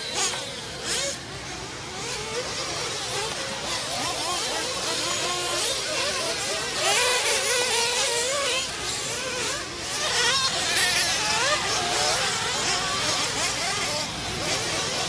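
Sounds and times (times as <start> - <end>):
model car engines buzzing: 0.0 - 15.0.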